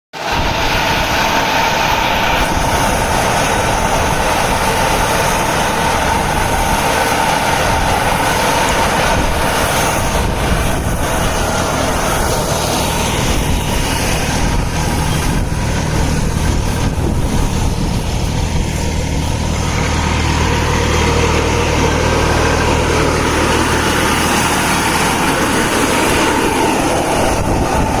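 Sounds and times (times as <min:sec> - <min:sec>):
tractor diesel engine running: 0:00.1 - 0:28.0.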